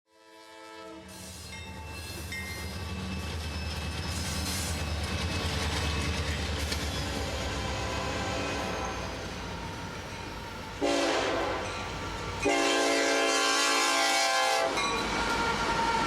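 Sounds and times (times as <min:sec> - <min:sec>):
rail noise: 0:00.6 - 0:16.0
train rumbling past: 0:00.8 - 0:16.0.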